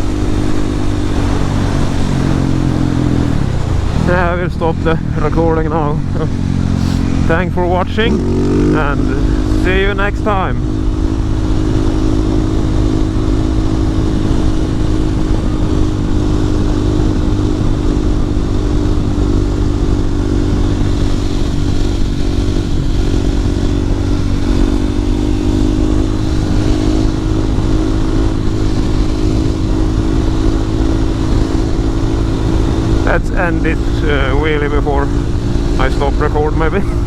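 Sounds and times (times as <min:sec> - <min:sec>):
heavy wind noise: 0:00.0 - 0:37.0
motorcycle engine running fast: 0:00.0 - 0:37.0.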